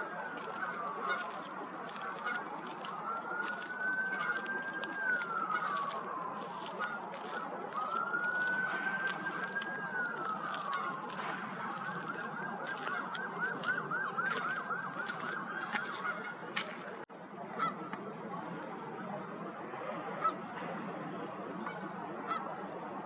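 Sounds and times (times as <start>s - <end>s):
distant emergency siren: 0.0s - 23.0s.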